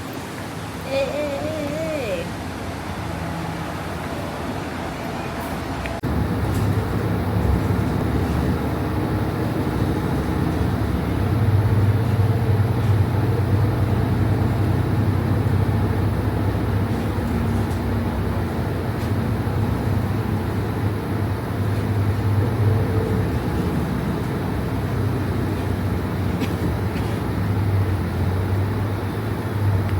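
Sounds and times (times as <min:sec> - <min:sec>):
engine hum: 0:00.0 - 0:29.9
road noise: 0:00.0 - 0:29.9.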